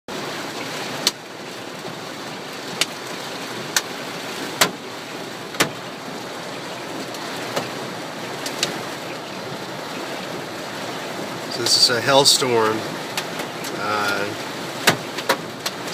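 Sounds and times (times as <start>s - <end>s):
rain hissing on a car: 0.1s - 15.9s.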